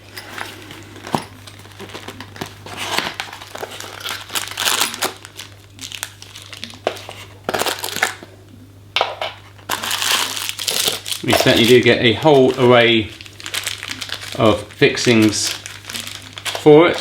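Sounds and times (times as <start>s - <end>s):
packaging crinkling and rustling: 0.0s - 8.3s, 9.6s - 17.0s.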